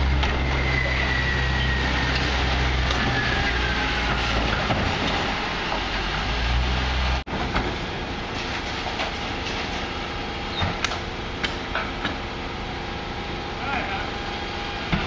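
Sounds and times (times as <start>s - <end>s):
garbage truck engine rumbling: 0.0s - 15.0s.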